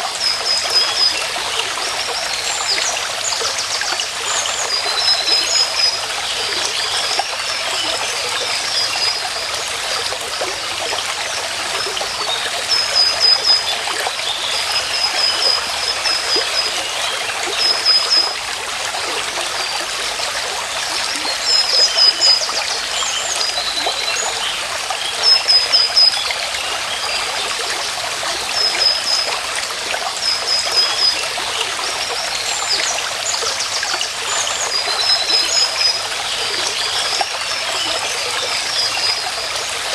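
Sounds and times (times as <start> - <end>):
small stream running water: 0.0 - 39.9.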